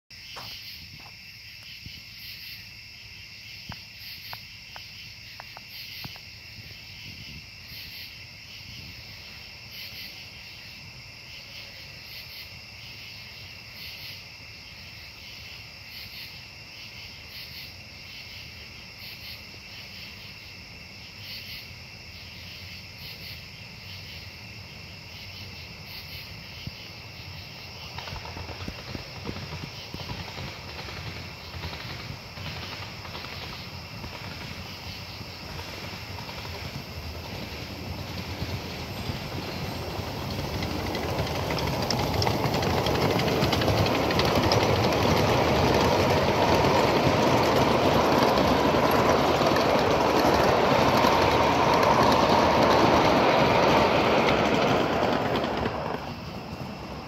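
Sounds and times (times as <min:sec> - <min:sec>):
crickets trilling: 0:00.1 - 0:57.0
higher pulsing insect call: 0:00.1 - 0:57.0.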